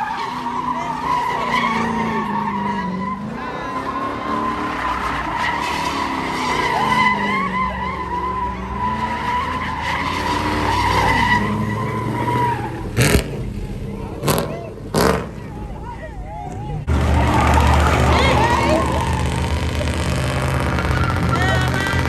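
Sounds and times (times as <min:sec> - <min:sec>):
car engine revving: 0:00.0 - 0:22.0
car tires squealing: 0:00.0 - 0:22.0.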